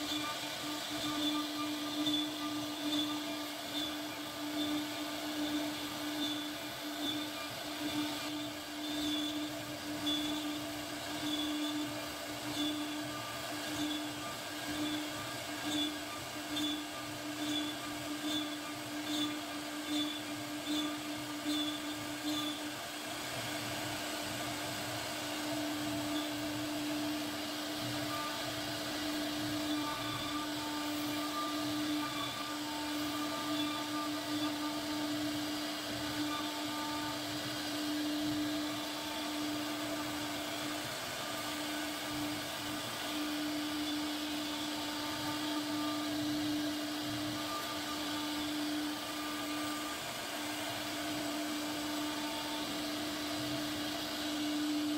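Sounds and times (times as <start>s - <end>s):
router spindle whining: 0.0s - 54.9s.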